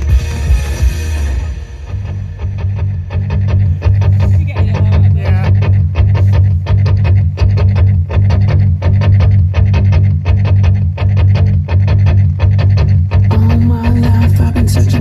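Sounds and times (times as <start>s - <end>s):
heavy bass line: 0.0s - 15.0s
plucked guitar notes: 0.0s - 15.0s.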